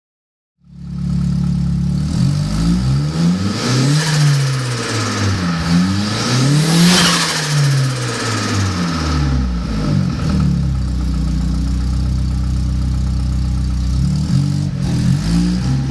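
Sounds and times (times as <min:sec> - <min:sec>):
car engine revving: 0:00.7 - 0:15.9.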